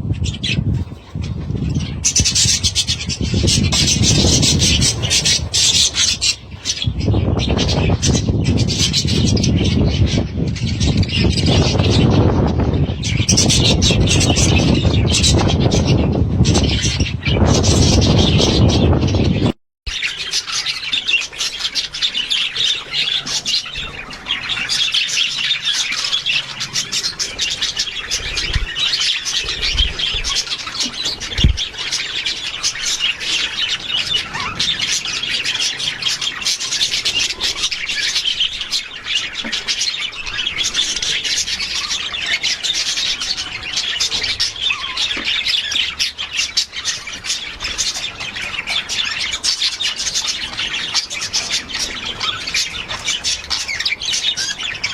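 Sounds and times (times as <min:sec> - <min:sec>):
budgerigars chattering: 0:00.1 - 0:19.2, 0:19.9 - 0:54.9.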